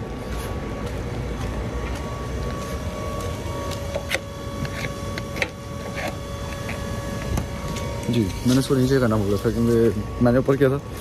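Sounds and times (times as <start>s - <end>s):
faint steady hum: 0.0s - 11.0s
low outdoor rumble: 0.0s - 11.0s.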